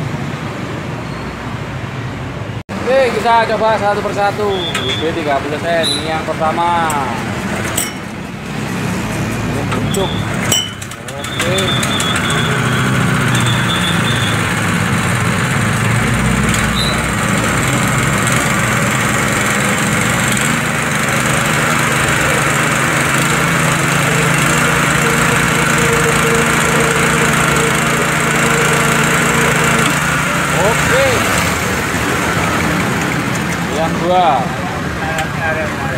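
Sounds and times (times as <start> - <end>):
water pump engine running: 2.8 - 35.9.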